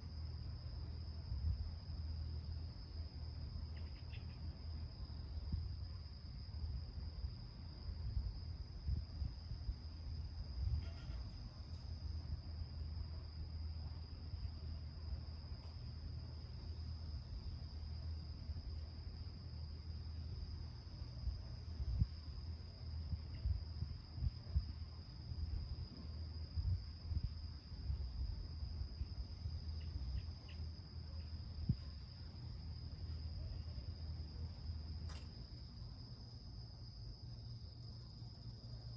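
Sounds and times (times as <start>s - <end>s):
insects trilling: 0.1s - 38.9s.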